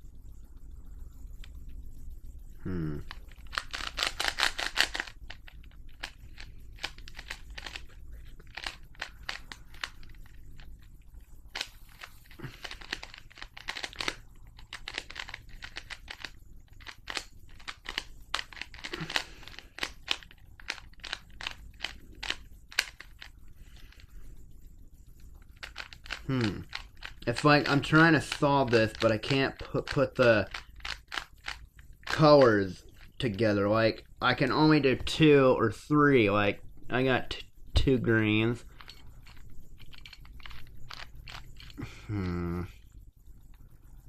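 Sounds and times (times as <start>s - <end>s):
puzzle cube layers clicking: 2.7s - 24.2s, 25.2s - 43.6s.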